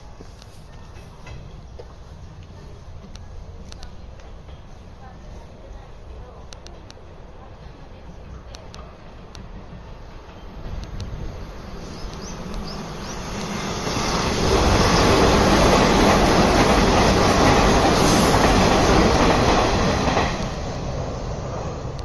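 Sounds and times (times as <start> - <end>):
train passing on rails: 0.0 - 22.0.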